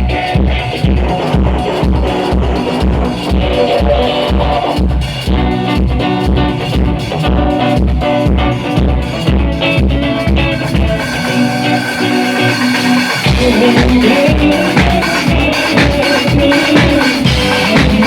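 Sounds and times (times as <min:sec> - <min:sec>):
band playing music: 0:00.0 - 0:18.0.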